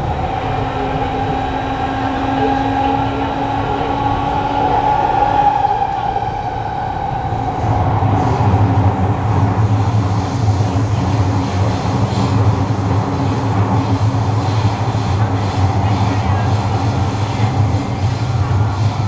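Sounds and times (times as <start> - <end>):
train inverter whine: 0.0 - 19.0
train running rumble in tunnel: 0.0 - 19.0.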